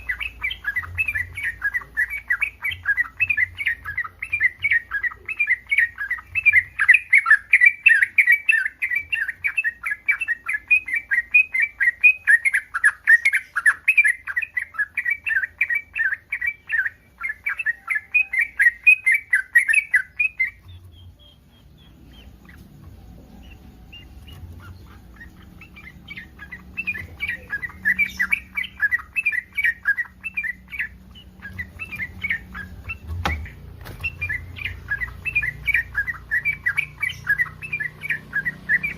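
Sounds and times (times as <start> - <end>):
bird calling in rapid chatter: 0.0 - 38.9.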